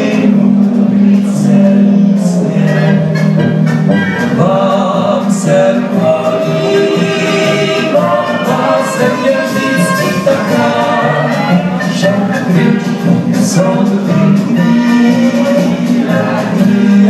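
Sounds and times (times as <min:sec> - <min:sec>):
live folk dance band: 0:00.0 - 0:17.0
voices singing along: 0:00.0 - 0:17.0.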